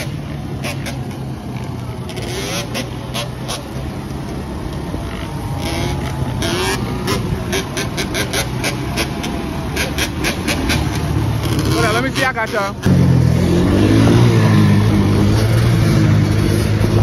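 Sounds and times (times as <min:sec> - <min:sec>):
motorbike engine close to microphone: 0:00.0 - 0:17.0
quad engine running: 0:00.0 - 0:17.0.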